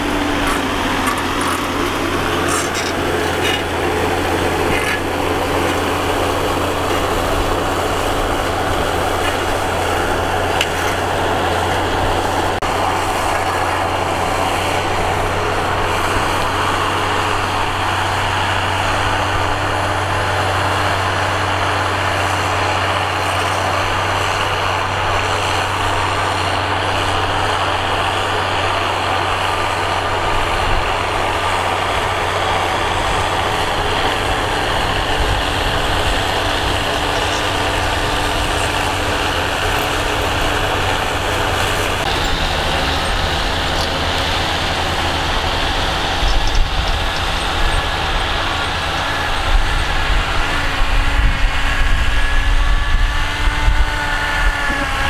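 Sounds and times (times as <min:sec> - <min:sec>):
harrow rushing through dry soil: 0:00.0 - 0:55.0
tractor diesel engine drone: 0:00.0 - 0:55.0.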